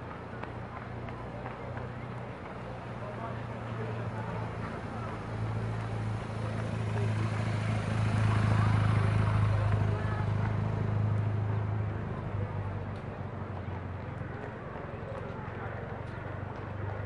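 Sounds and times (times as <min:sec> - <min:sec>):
street noise: 0:00.0 - 0:17.0
vehicle engine humming: 0:00.0 - 0:17.0
voices: 0:00.0 - 0:17.0.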